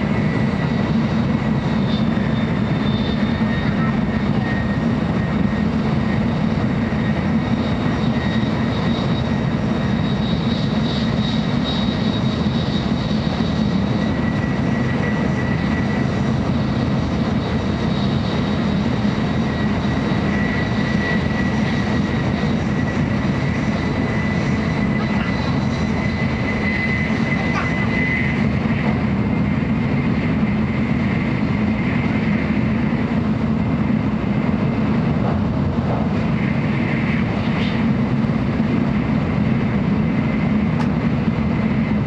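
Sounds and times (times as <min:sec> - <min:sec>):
train interior rumble: 0:00.0 - 0:42.0.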